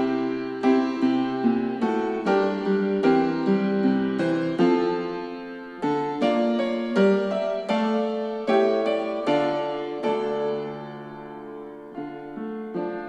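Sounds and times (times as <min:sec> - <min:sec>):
piano music through small speakers: 0:00.0 - 0:13.0.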